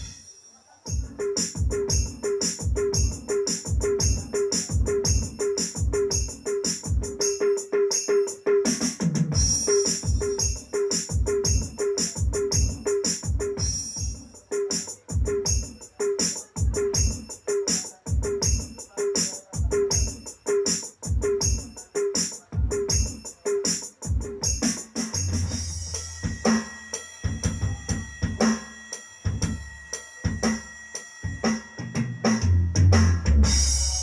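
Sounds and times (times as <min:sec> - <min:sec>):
electronic drum rhythm: 0:00.0 - 0:34.0.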